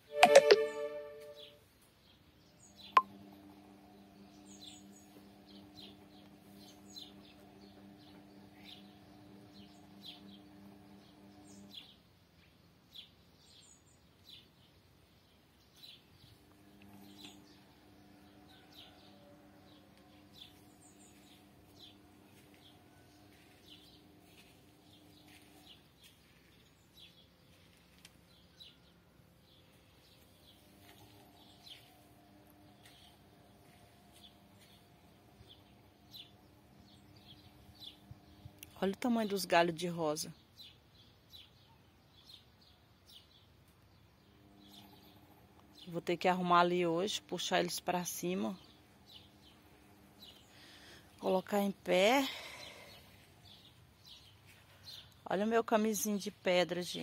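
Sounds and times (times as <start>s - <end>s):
small birds chirping: 1.0s - 57.0s.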